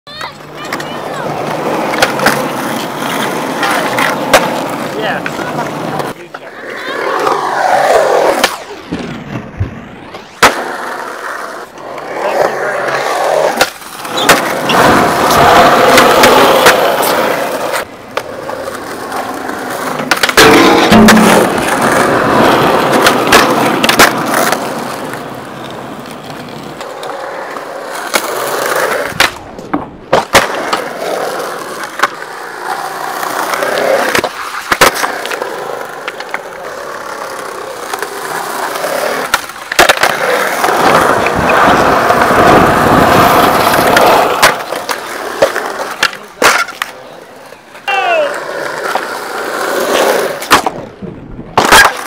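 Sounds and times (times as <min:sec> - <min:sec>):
skateboard clacking on concrete: 0:00.1 - 0:09.7, 0:10.4 - 0:52.0
skateboard wheels rolling on concrete: 0:00.1 - 0:52.0.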